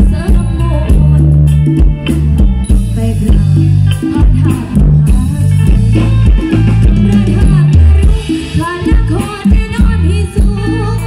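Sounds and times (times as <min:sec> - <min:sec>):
bass line: 0:00.0 - 0:11.0
drum kit beat: 0:00.0 - 0:11.0
live band music: 0:00.0 - 0:11.0.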